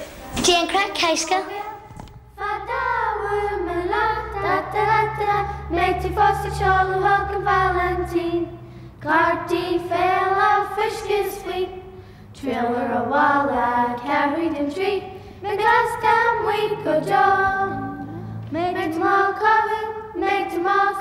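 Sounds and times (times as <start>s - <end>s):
children singing together: 2.3s - 21.0s.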